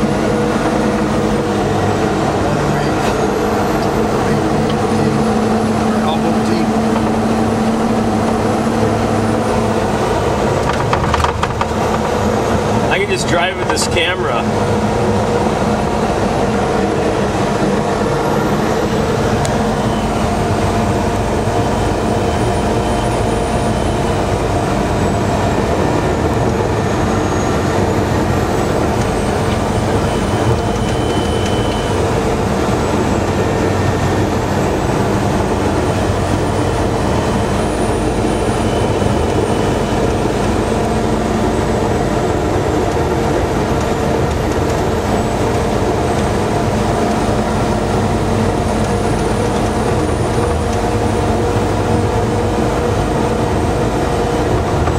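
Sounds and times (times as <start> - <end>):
engine and road noise in cab: 0.0 - 54.9.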